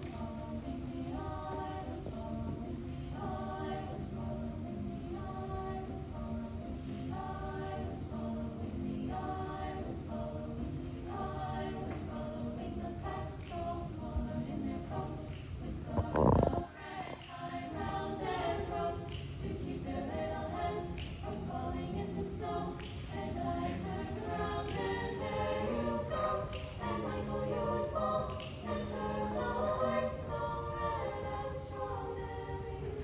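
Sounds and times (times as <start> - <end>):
children's choir singing a cappella: 0.0 - 33.0.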